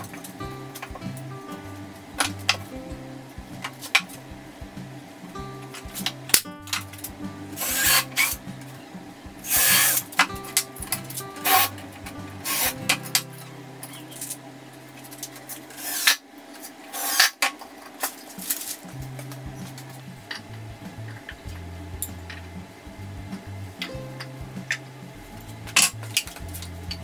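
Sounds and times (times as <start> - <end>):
background music: 0.0 - 15.8, 18.4 - 27.0.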